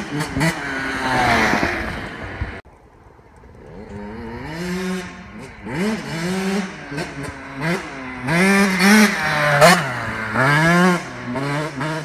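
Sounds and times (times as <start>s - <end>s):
dirt bike engine revving: 0.0s - 2.6s, 3.6s - 12.0s.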